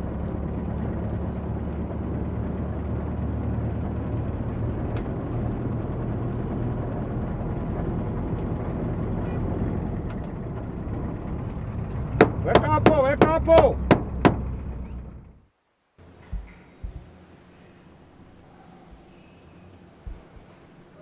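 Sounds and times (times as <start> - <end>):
minibus engine and road rumble: 0.0 - 21.0.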